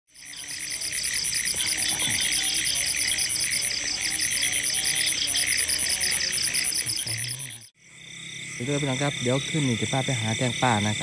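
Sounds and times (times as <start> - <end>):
frog calls: 0.1 - 11.0
pulsing insect trill: 0.1 - 11.0
steady high insect buzz: 0.1 - 11.0.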